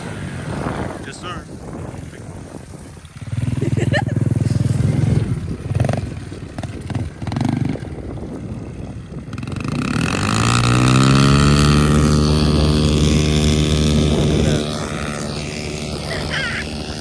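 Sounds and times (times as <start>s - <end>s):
pit bike engine accelerating: 0.0s - 17.0s.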